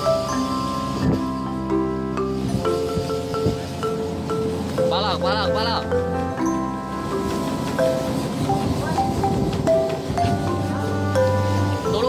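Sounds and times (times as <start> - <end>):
melodic background music: 0.0 - 12.0.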